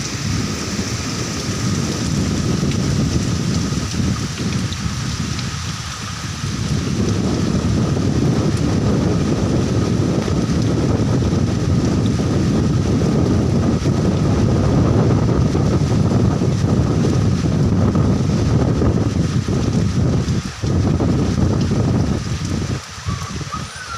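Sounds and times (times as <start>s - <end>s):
heavy rain falling: 0.0s - 23.9s
wind buffeting microphone: 0.0s - 23.9s.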